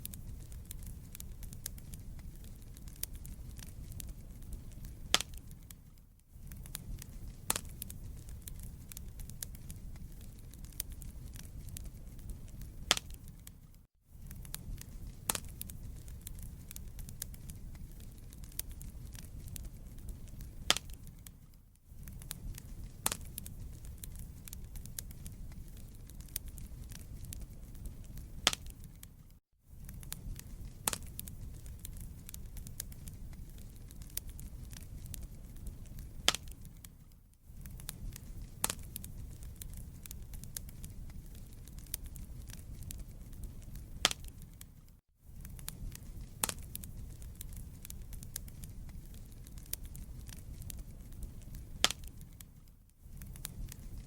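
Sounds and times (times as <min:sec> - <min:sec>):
fire crackling and popping: 0:00.0 - 0:54.0
fire rumbling: 0:00.0 - 0:54.0.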